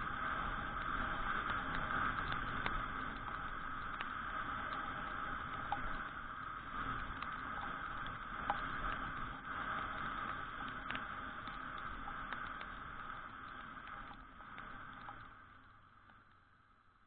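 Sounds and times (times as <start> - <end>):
muffled road and wind hiss: 0.0 - 17.0
raindrops ticking on camera: 0.0 - 17.0.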